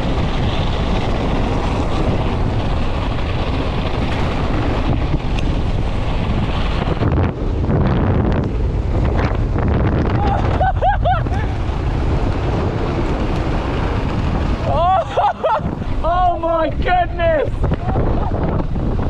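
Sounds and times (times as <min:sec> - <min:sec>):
tyres rumbling on loose dirt: 0:00.0 - 0:19.0
wind noise on microphone: 0:00.0 - 0:19.0.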